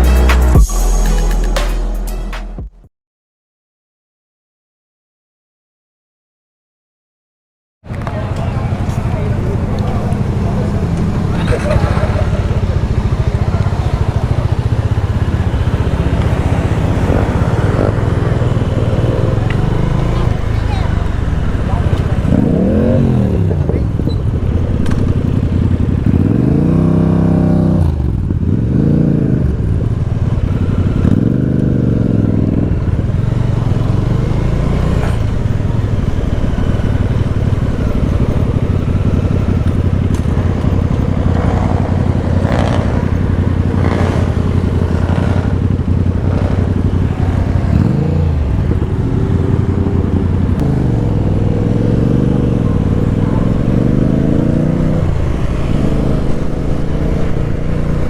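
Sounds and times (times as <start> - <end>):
motorcycle engine revving: 7.9 - 58.0.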